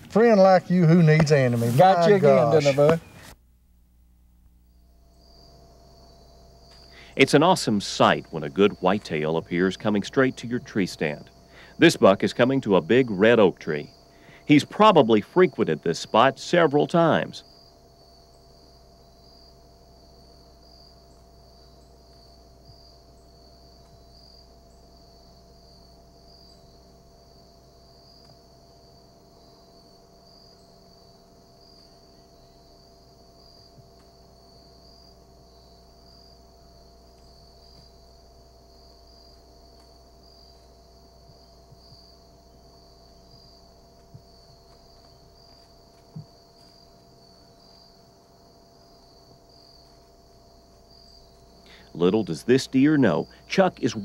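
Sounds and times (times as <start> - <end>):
insects chirring: 0.0 - 3.4, 4.4 - 54.0
low steady hum: 0.0 - 54.0.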